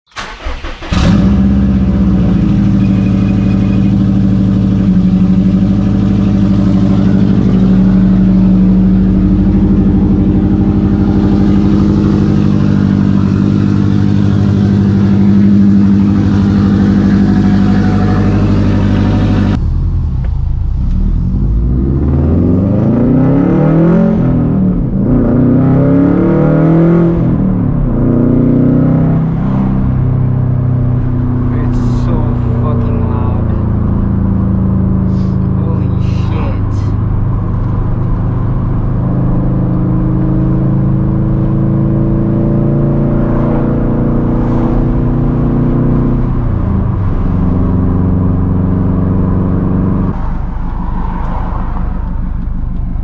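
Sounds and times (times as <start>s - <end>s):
loud car exhaust revving: 0.1s - 53.0s.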